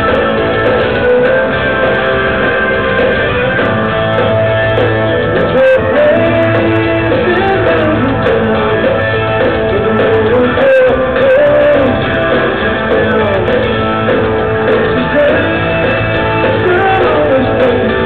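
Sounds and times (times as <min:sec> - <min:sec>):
bass guitar: 0:00.0 - 0:18.0
drums: 0:00.0 - 0:18.0
electric guitar: 0:00.0 - 0:18.0.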